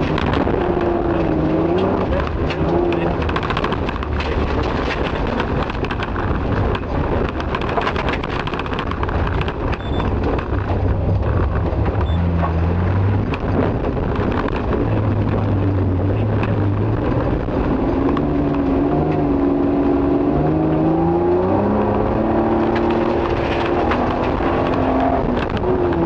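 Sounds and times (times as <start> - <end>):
car engine revving: 0.0 - 26.0
road noise rush: 0.0 - 26.0.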